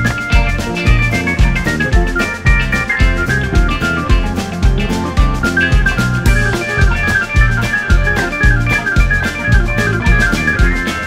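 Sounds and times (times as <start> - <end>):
drum kit: 0.0 - 11.0
electric bass: 0.0 - 11.0
electric piano chords: 0.0 - 11.0.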